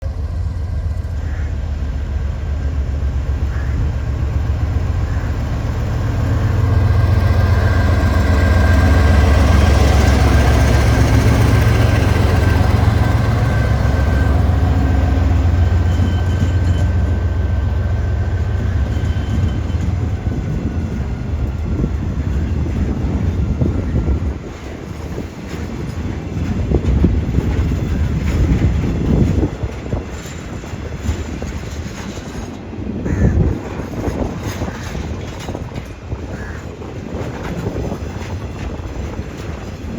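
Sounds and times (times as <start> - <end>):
locomotive engine drone: 0.0 - 39.9.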